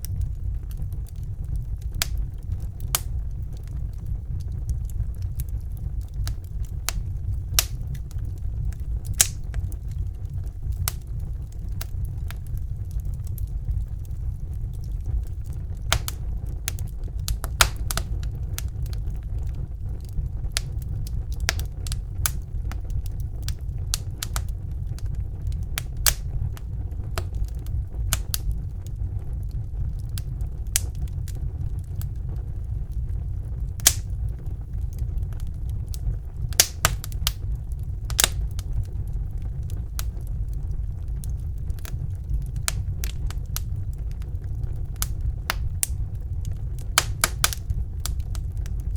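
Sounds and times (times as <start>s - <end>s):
fire crackling and popping: 0.0s - 48.9s
fire rumbling: 0.0s - 48.9s.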